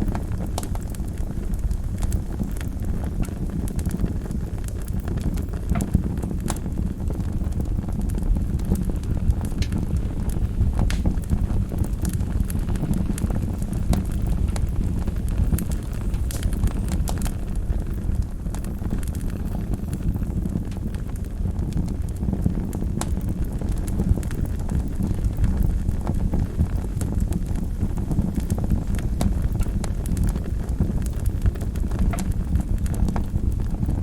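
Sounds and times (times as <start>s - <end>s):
fire flames rumbling: 0.0s - 34.0s
wood fire crackling and popping: 0.0s - 34.0s.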